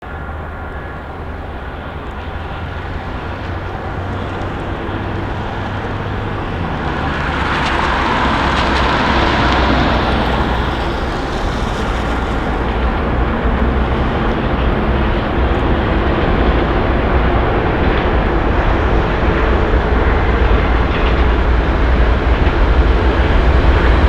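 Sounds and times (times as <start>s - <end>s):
locomotive engine drone: 0.0s - 24.0s
train rushing roar: 0.0s - 24.0s.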